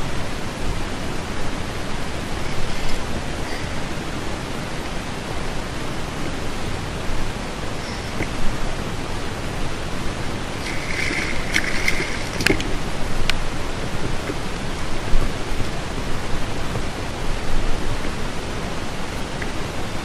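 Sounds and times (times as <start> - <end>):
wind and sea rushing: 0.0 - 20.0.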